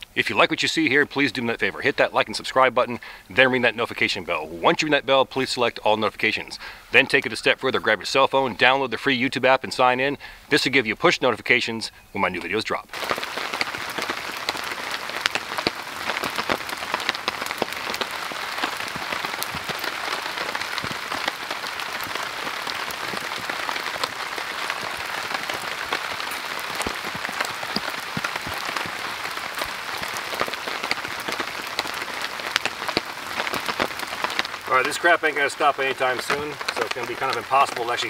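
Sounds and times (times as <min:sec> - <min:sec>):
heavy rain: 0:00.0 - 0:10.7, 0:12.9 - 0:38.0.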